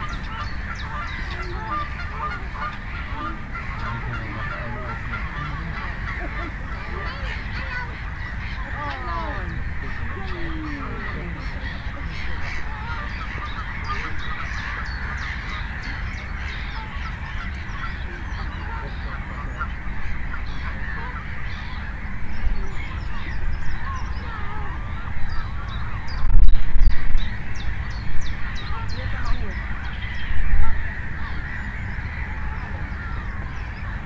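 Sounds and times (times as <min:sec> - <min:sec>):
low background hum: 0:00.0 - 0:34.0
waterfowl calls: 0:00.0 - 0:34.0.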